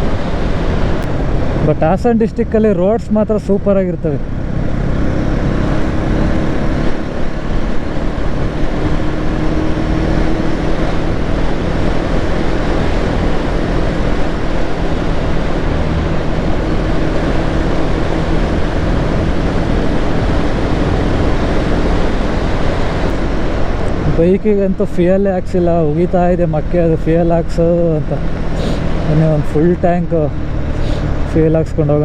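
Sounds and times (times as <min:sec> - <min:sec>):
motorcycle engine cruising: 0:00.0 - 0:32.0
wind rush on microphone: 0:00.0 - 0:32.0.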